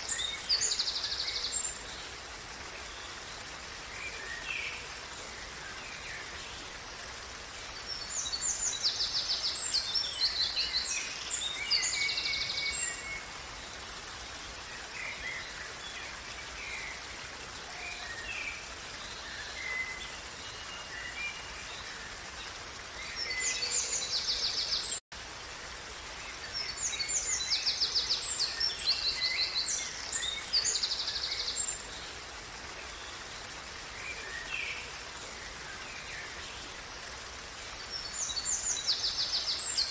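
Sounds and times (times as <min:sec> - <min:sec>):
songbirds singing: 0:00.0 - 0:25.0, 0:26.0 - 0:39.9
stream running: 0:00.0 - 0:39.9.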